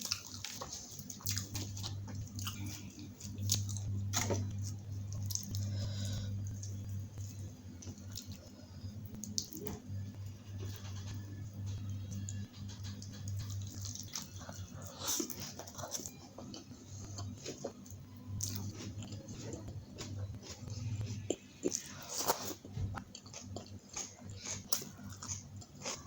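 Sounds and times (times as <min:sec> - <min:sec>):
person chewing crunchy food: 0:00.0 - 0:11.4, 0:12.1 - 0:26.0
steady low hum: 0:00.0 - 0:26.0.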